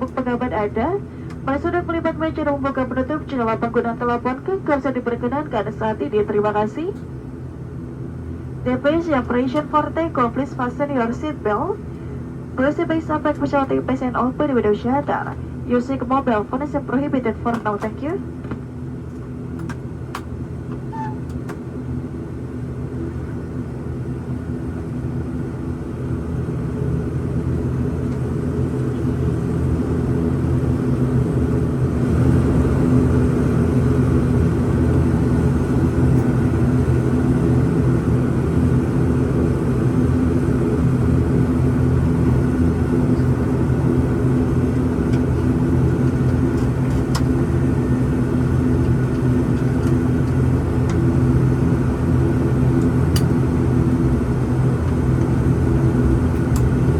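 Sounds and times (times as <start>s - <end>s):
turboprop engines droning in cabin: 0.0s - 56.9s.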